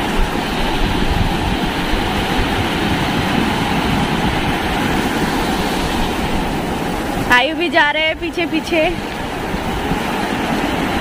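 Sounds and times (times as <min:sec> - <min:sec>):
sea surf breaking: 0:00.0 - 0:11.0
wind buffeting microphone: 0:00.0 - 0:11.0.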